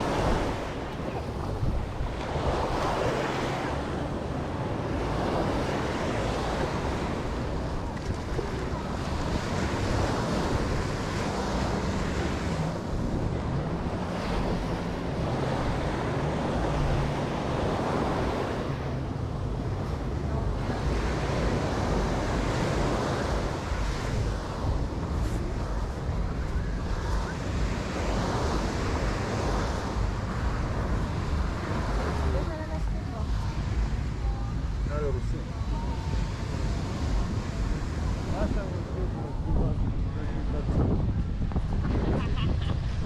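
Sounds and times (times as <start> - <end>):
surf washing up beach: 0.0 - 43.0
wind buffeting microphone: 0.0 - 43.0.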